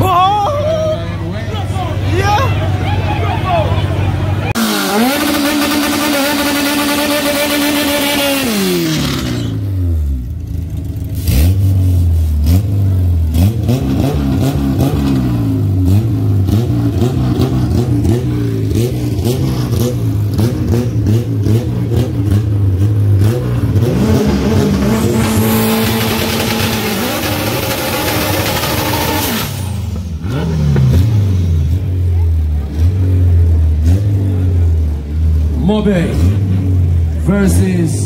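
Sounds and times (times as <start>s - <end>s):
car engines revving: 0.0s - 38.0s
engine crackle: 3.9s - 35.6s.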